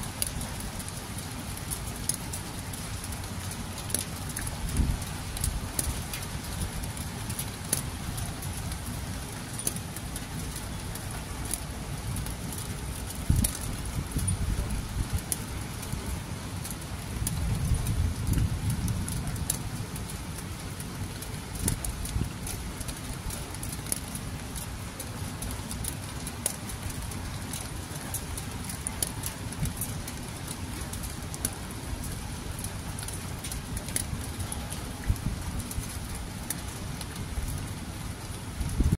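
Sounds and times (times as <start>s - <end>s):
steady rain: 0.0s - 38.9s
drip ticks: 0.1s - 38.9s
steady low rumble: 2.6s - 38.9s.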